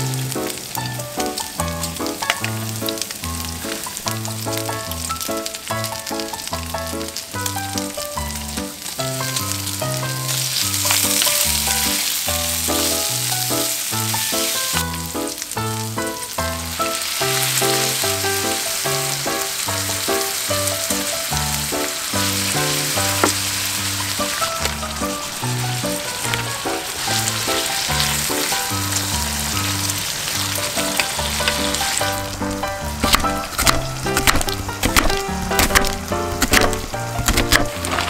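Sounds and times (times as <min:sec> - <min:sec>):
background music with bass: 0:00.0 - 0:38.0
pork sizzling in a frying pan: 0:00.0 - 0:38.0.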